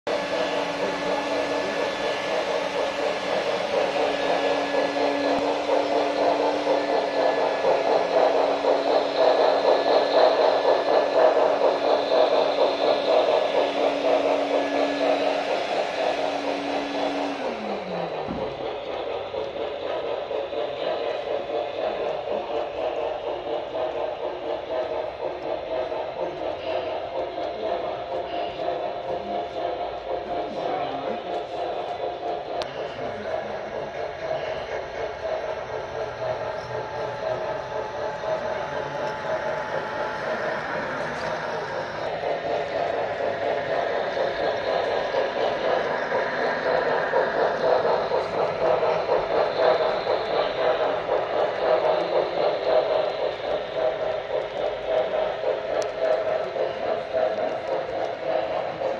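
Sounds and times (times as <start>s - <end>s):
model train wheels clicking on track: 0.1s - 58.9s
steady hum: 0.1s - 58.9s.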